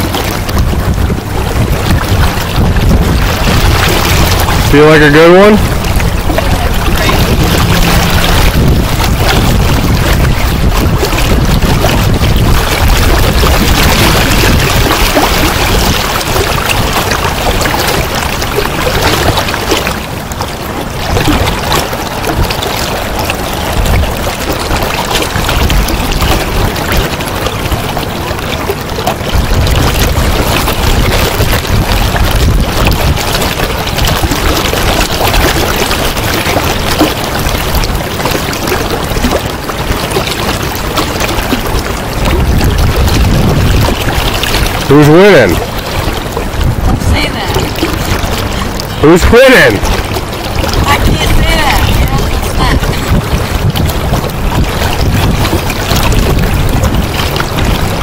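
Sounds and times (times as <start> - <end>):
river rushing: 0.0 - 58.0
wind rumbling on microphone: 0.0 - 58.0.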